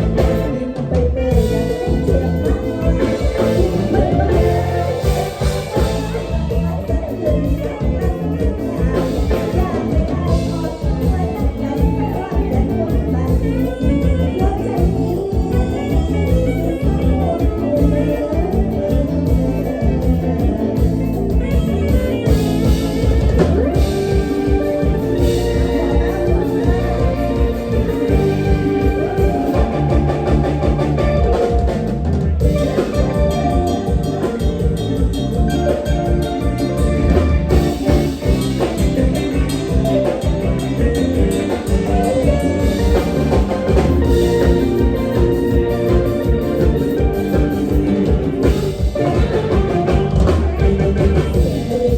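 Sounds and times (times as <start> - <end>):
drum kit: 0.0 - 51.9
electric bass: 0.0 - 51.9
lead guitar: 0.0 - 51.9
live band dance music: 0.0 - 51.9.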